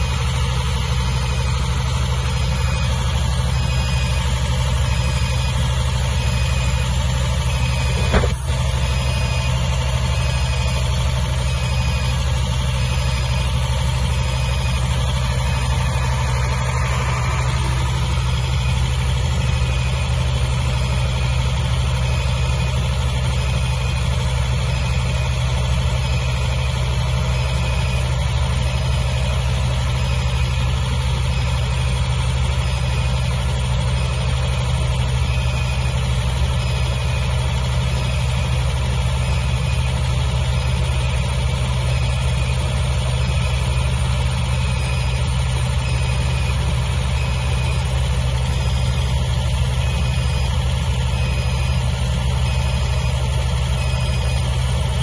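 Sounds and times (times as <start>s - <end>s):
diesel generator engine drone: 0.0s - 55.0s.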